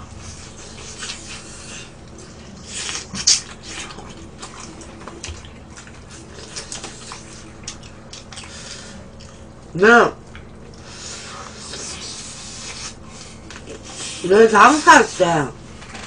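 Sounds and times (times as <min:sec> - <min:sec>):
chewing and lip-smacking: 0:00.1 - 0:14.2.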